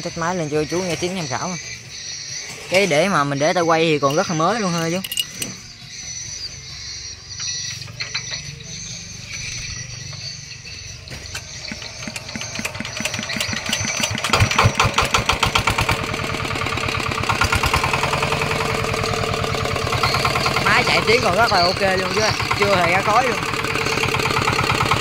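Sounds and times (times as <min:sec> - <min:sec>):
diesel engine running: 0:00.0 - 0:25.0
diesel engine hand-cranked: 0:03.9 - 0:25.0.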